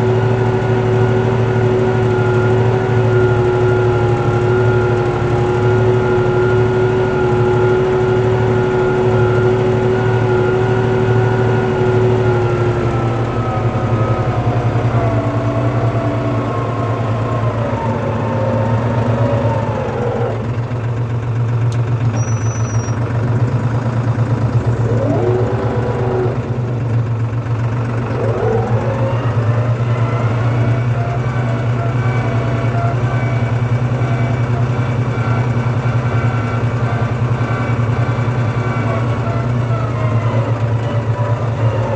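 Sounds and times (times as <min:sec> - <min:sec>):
tractor engine running: 0:00.0 - 0:41.9
whining tone: 0:00.0 - 0:41.9.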